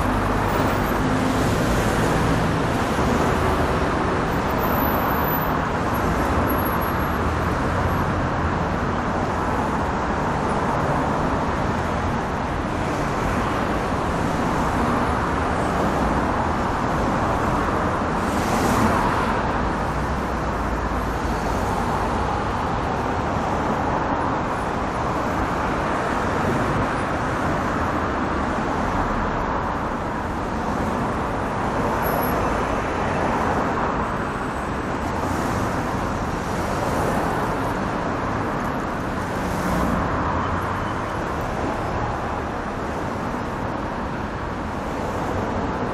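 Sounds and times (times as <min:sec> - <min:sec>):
heavy street traffic: 0:00.0 - 0:45.9.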